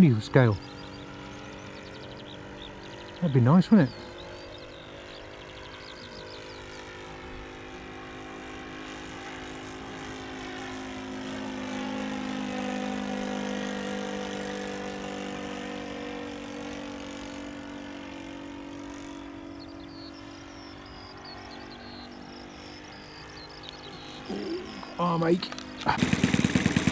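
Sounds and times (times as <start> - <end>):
model plane engine in flight: 0.0 - 26.9.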